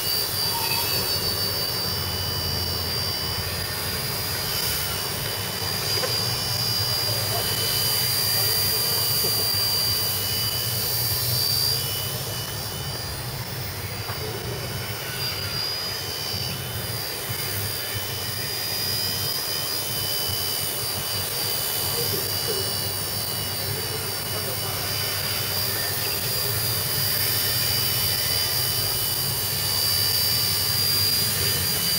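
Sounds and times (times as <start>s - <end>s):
helicopter motor whine: 0.0s - 31.9s
rotor hum: 0.0s - 31.9s.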